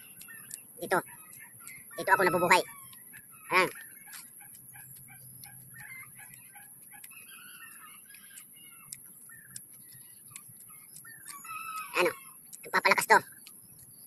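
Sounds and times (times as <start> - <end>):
faint sharp clicks: 0.0 - 0.7, 2.8 - 14.0
birds chirping: 0.0 - 14.0.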